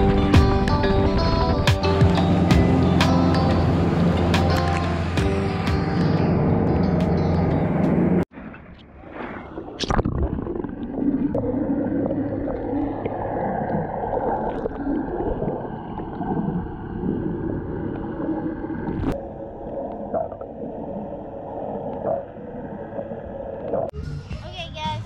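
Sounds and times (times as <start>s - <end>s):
low hum: 0.0s - 23.9s
water gurgling and rushing: 0.0s - 23.9s.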